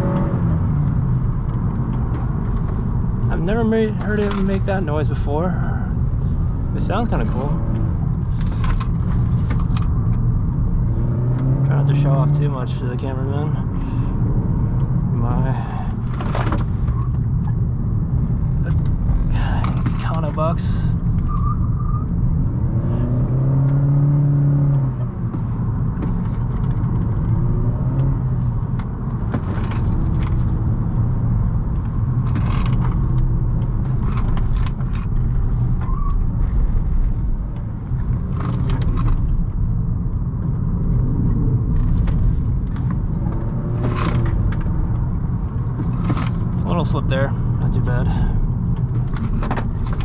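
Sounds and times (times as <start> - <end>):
car engine accelerating: 0.0 - 50.0
road rumble: 0.0 - 50.0.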